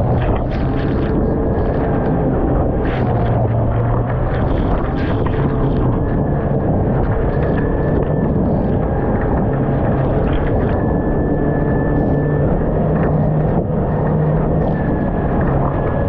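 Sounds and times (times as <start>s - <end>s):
engine whine: 0.0s - 16.0s
outboard motor rumble: 0.0s - 16.0s.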